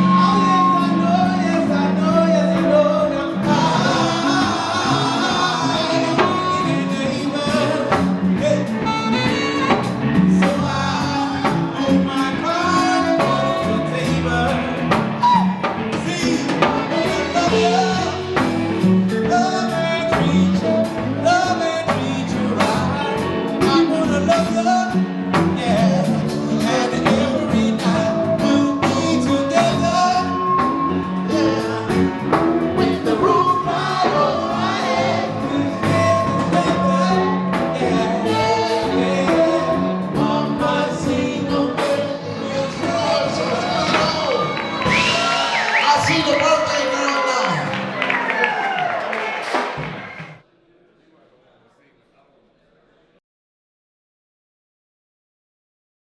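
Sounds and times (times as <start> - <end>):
person singing: 0.0 - 48.8
band with drums: 0.0 - 50.4.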